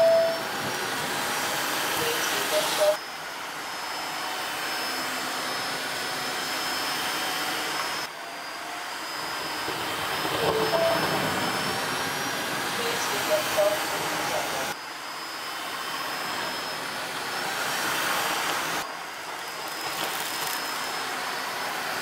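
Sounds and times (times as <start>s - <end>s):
vacuum mop motor running: 0.0s - 22.0s.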